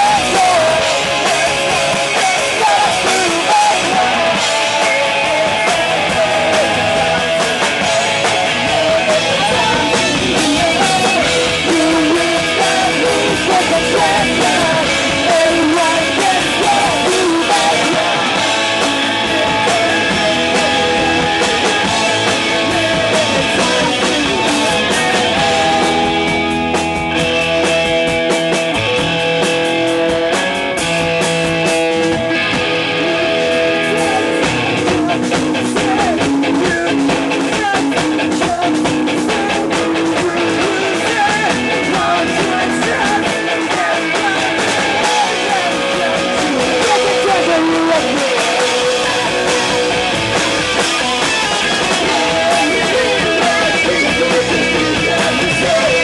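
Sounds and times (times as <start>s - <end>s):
person singing: 0.0s - 26.8s, 32.4s - 56.0s
punk rock band playing: 0.0s - 56.0s.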